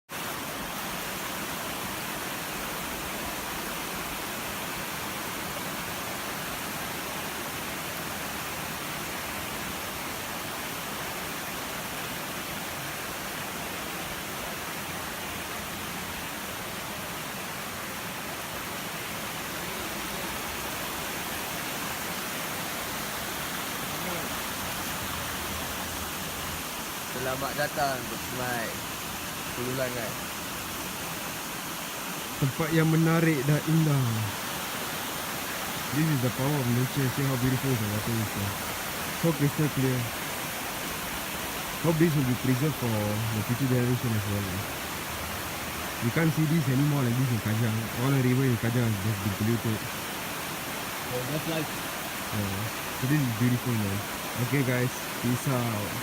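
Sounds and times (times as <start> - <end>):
water rushing over rocks: 0.1 - 56.0.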